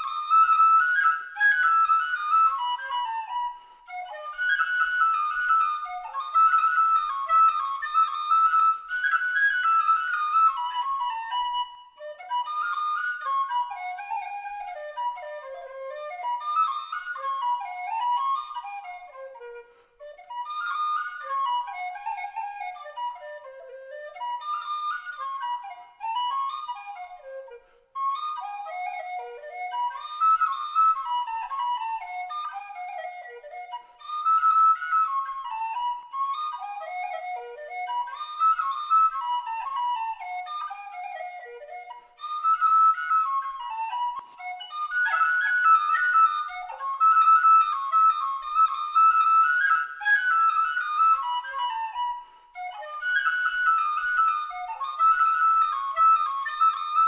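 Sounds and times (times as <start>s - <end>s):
flute playing a jig: 0.0s - 57.0s.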